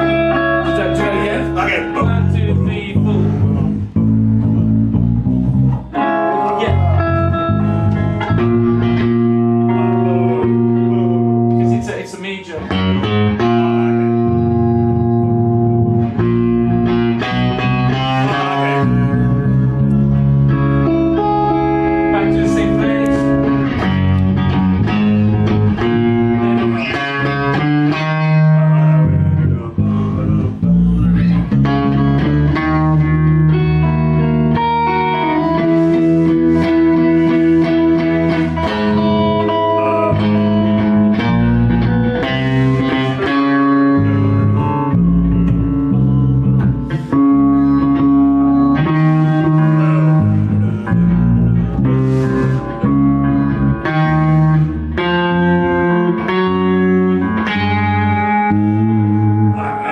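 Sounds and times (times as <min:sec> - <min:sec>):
bass notes: 0:00.0 - 0:59.9
electric guitars strumming chords: 0:00.0 - 0:59.9.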